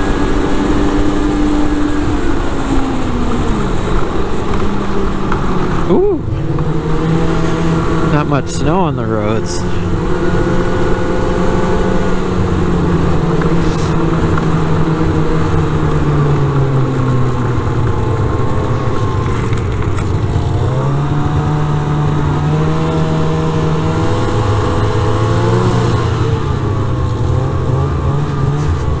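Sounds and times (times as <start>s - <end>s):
snowmobile engine running: 0.0s - 29.0s.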